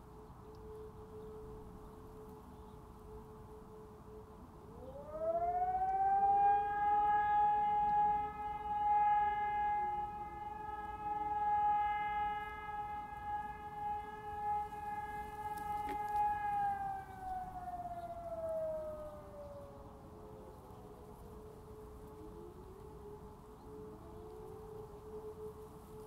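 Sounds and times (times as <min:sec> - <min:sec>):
electronic siren long tone: 0:00.0 - 0:26.0.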